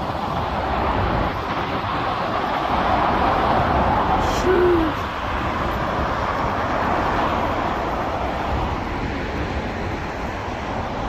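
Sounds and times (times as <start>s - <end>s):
motorway traffic rushing: 0.0s - 11.0s.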